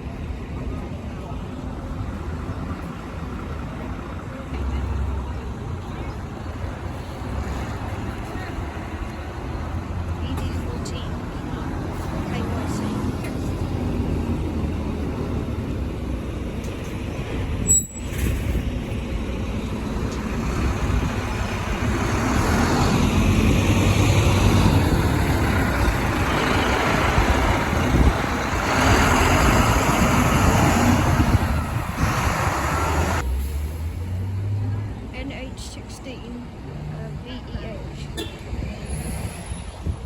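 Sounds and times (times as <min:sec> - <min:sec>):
bus diesel engine running: 0:00.0 - 0:40.0.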